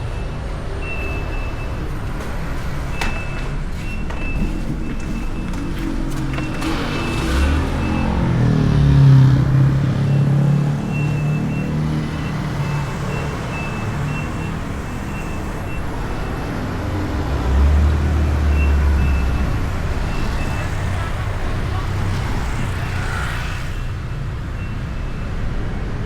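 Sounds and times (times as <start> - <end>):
motorbike engine rumble: 0.0 - 24.0
street traffic: 0.0 - 26.0.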